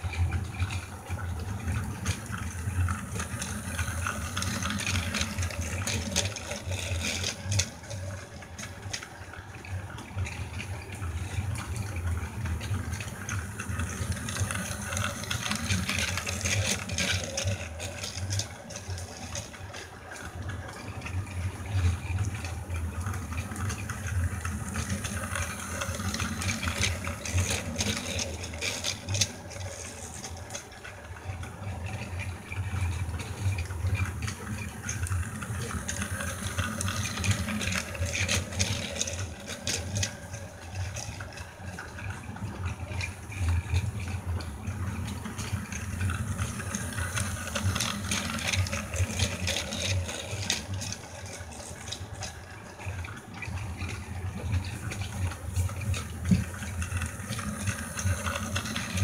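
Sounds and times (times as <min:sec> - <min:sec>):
toy train motor whir: 0:00.0 - 0:59.0
wheels clicking over track joints: 0:00.0 - 0:59.0.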